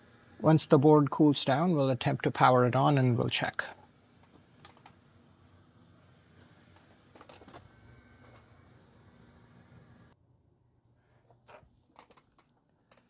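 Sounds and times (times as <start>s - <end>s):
faint equipment hum and hiss: 0.0s - 13.0s.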